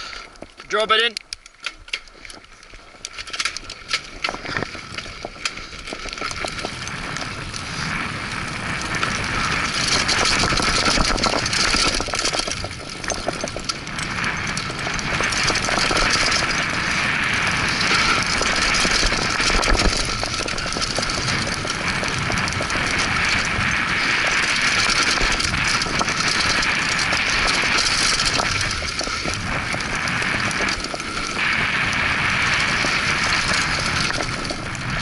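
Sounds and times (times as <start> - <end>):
bike clicks and rattles: 0.0 - 35.0
tyres crunching on gravel: 2.1 - 35.0
wind on microphone: 4.1 - 35.0.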